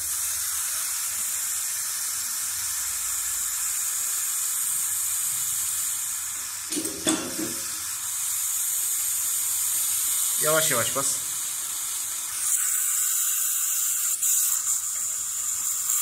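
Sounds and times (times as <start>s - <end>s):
water jet hissing from pipe: 0.0s - 16.0s.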